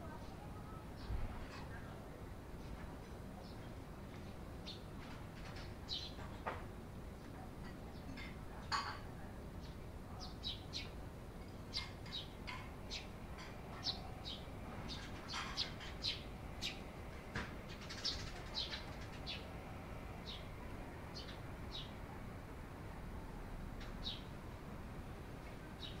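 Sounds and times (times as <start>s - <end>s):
sparrows chirping: 0.1s - 26.0s.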